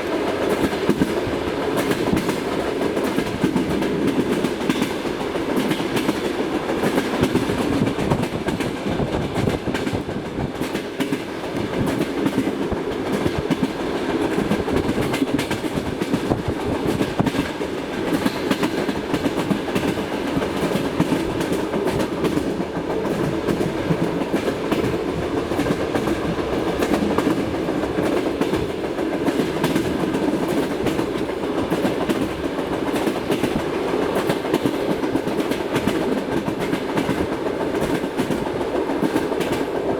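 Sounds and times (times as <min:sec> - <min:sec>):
train wheels clattering over rail joints: 0:00.1 - 0:39.9.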